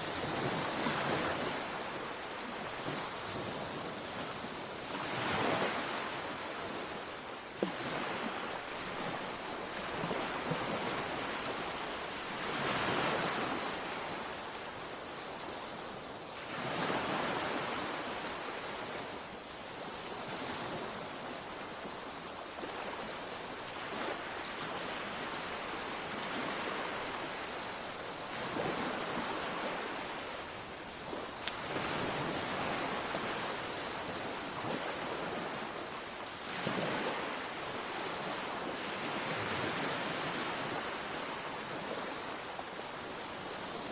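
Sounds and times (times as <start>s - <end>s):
sea waves breaking: 0.0s - 43.9s.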